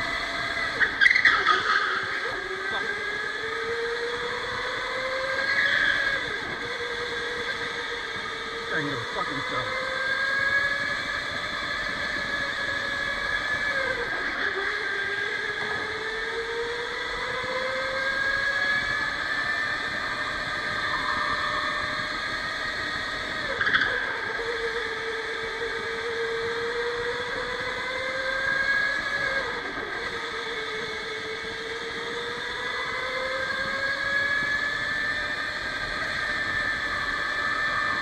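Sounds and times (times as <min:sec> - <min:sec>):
electric go-kart motor whining: 0:00.0 - 0:38.0.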